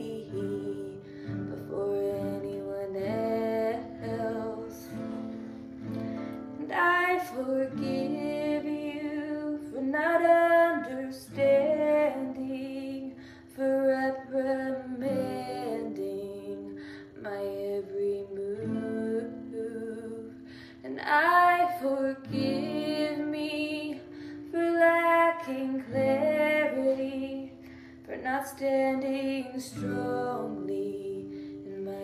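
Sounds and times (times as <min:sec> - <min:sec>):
guitar accompaniment: 0:00.0 - 0:32.0
woman singing slow song: 0:00.0 - 0:32.0.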